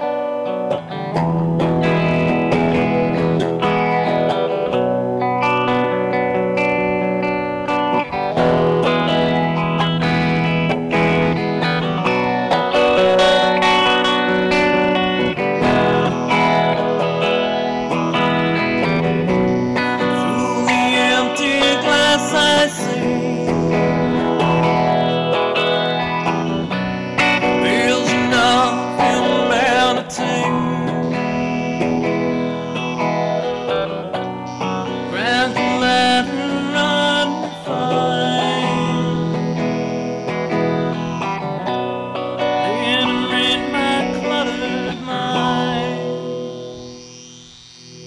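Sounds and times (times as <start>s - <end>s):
plucked guitar music: 0.0s - 48.0s
wavering melodic line: 0.0s - 48.0s.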